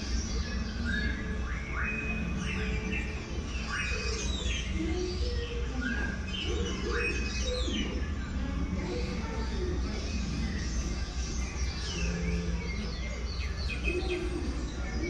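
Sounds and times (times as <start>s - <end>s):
bird chirps and calls: 0.0s - 15.0s
steady low hum: 0.0s - 15.0s.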